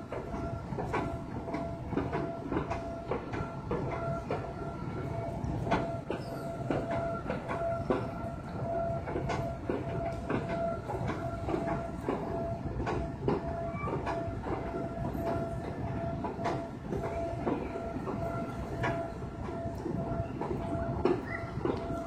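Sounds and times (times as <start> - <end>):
rail clacks: 0.0 - 22.0
rail vehicle rumble and whine: 0.0 - 22.0.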